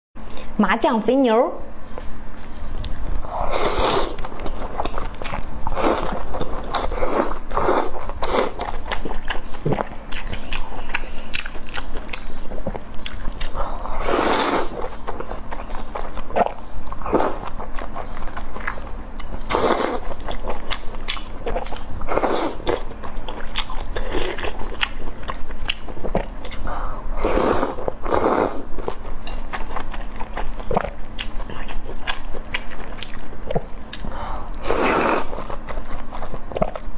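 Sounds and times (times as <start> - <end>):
person chewing loudly: 2.4 - 36.9.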